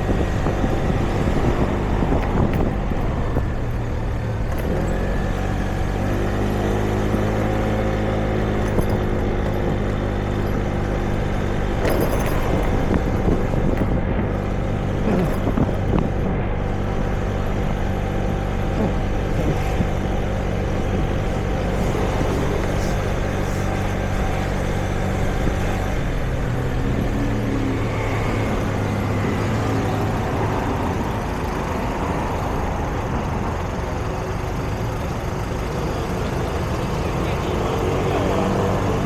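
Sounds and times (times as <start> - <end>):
nearby vehicle engine humming: 0.0 - 39.0
traffic rumble: 0.0 - 39.0.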